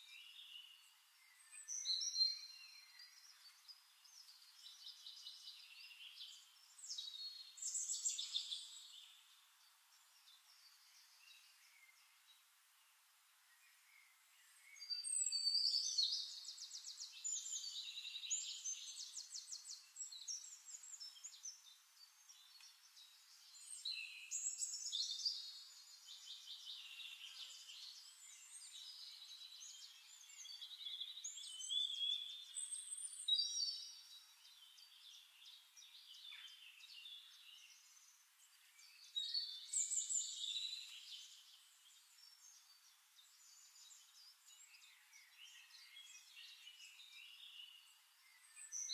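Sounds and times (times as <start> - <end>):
songbirds trilling and chirping: 0.0 - 48.9.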